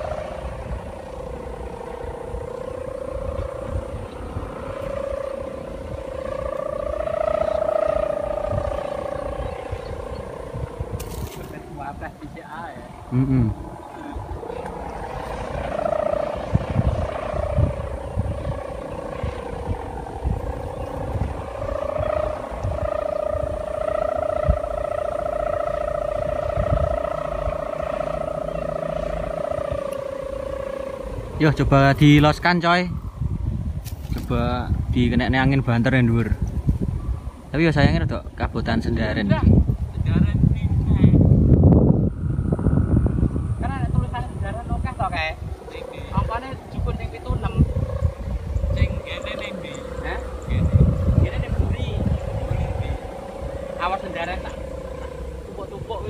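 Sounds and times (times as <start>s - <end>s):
kite string humming: 0.0s - 56.0s
low wind rumble: 0.0s - 56.0s.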